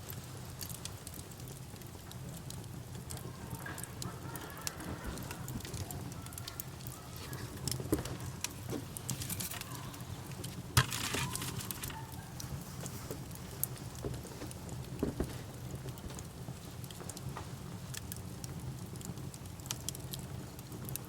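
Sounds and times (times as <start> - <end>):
campfire crackling: 0.0 - 21.0
low rumble of fire: 0.0 - 21.0.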